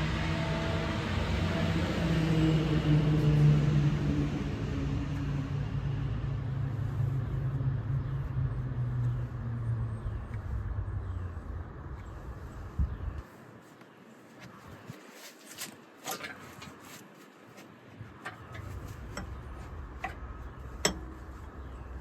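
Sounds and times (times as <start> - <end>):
vehicle engine humming: 0.0 - 13.3, 16.2 - 22.0.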